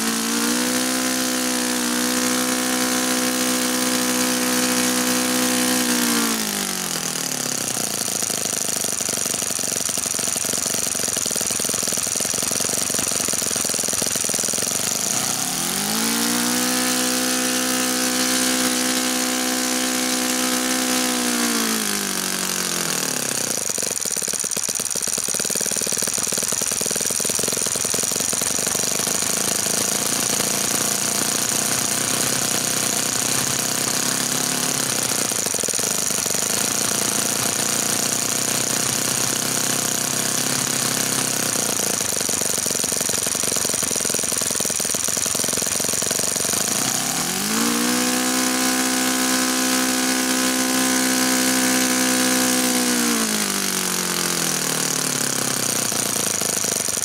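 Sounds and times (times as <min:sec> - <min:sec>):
model glow engine running: 0:00.0 - 0:57.0.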